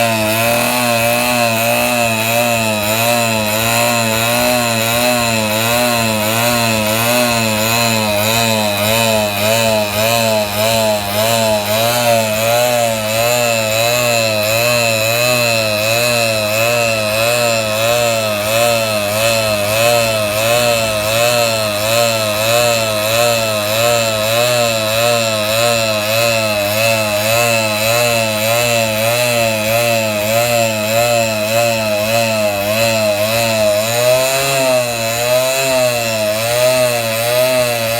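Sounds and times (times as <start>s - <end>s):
dirt bike engine running: 0.0s - 37.9s.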